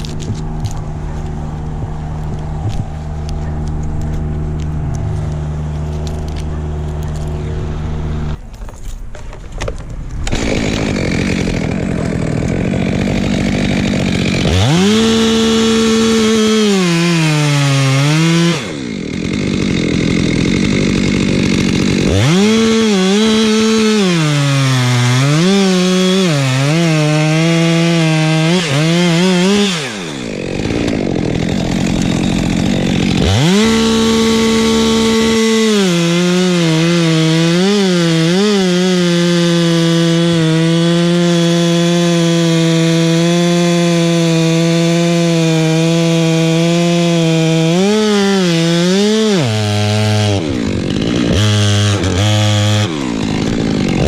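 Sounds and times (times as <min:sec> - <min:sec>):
chainsaw cutting wood: 0:00.0 - 0:08.4, 0:10.0 - 0:54.0.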